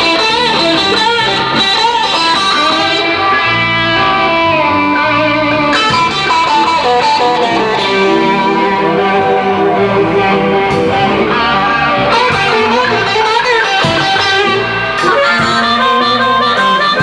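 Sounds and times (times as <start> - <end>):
blues band playing live: 0.0 - 17.0
electric guitar lead: 0.0 - 17.0.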